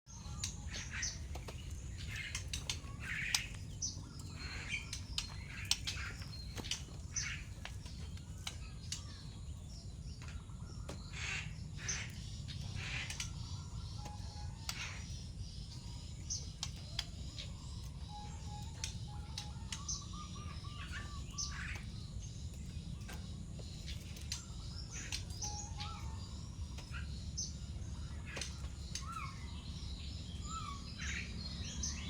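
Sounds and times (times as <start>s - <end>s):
songbird chirping: 0.1s - 32.0s
steady low hum: 0.1s - 32.0s.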